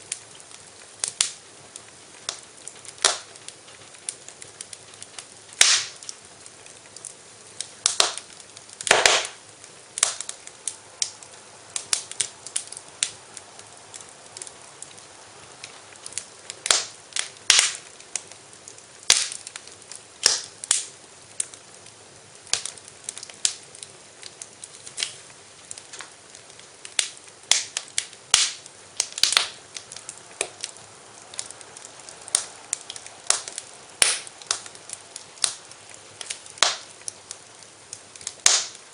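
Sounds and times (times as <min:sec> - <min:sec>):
faint steady hiss: 0:00.0 - 0:38.9
wood fire crackling: 0:00.0 - 0:38.9.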